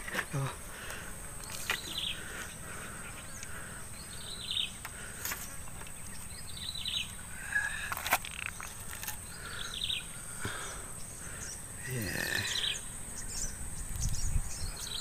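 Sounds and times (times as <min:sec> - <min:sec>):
birds chirping: 0:00.0 - 0:15.0
high-pitched insect drone: 0:00.0 - 0:15.0.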